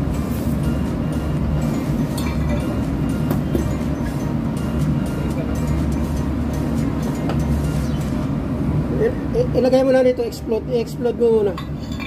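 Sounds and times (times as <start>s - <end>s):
engine-room machinery drone: 0.0s - 12.0s.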